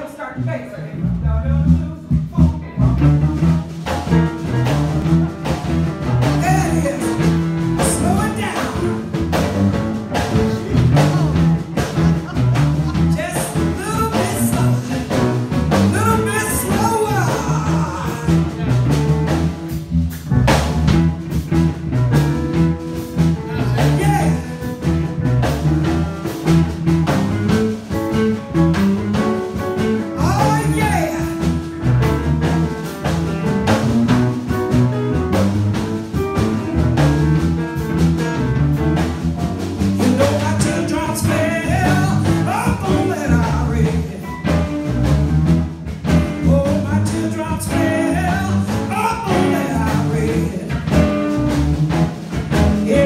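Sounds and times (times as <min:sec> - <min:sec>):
amplified music with bass line: 0:00.0 - 0:53.0.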